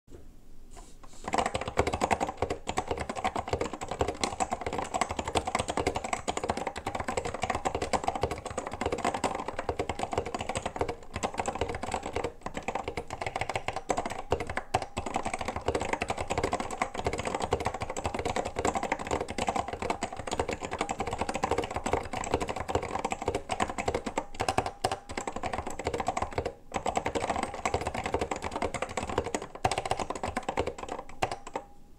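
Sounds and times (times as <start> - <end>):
mechanical keyboard typing: 1.2 - 31.7.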